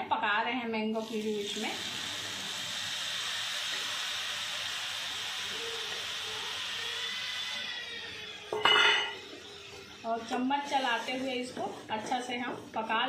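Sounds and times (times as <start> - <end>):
puree sizzling and bubbling in pan: 0.8 - 13.0.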